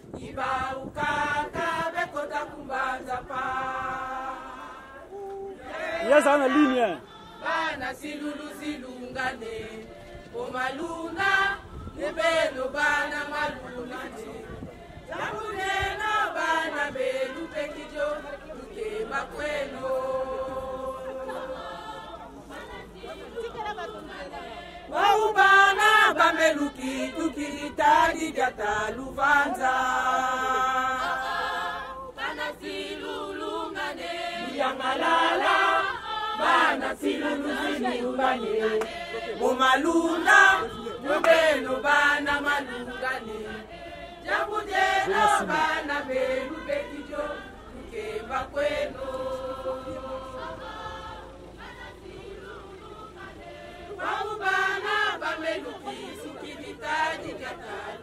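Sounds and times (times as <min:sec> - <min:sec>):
group singing in chorus: 0:00.0 - 0:58.0.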